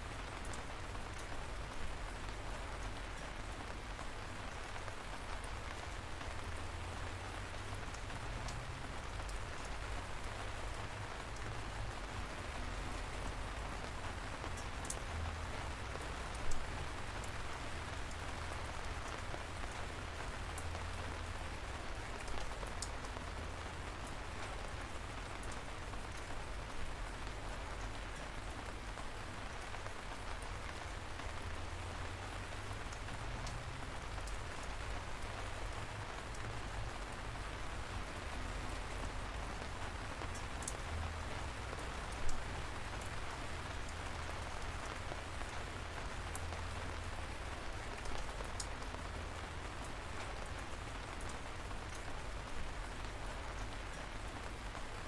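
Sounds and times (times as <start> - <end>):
light rain pattering: 0.0 - 55.0.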